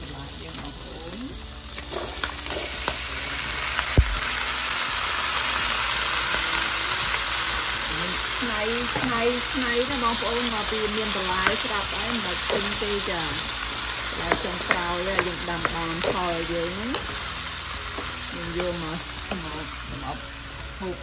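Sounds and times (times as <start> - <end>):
food sizzling in pan: 0.0 - 21.0.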